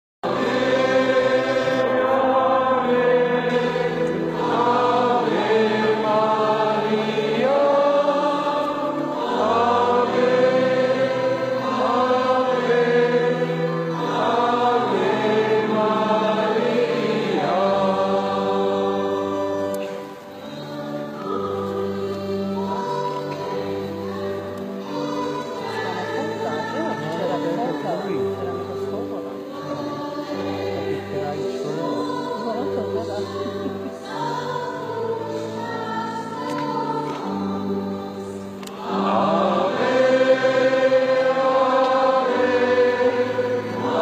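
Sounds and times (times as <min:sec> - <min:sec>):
choir singing a hymn: 0:00.2 - 0:44.0.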